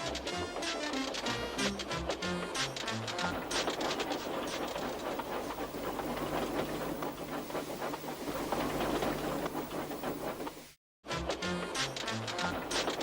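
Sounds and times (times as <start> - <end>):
train wheels clicking on track: 0.0 - 10.7, 11.4 - 13.0.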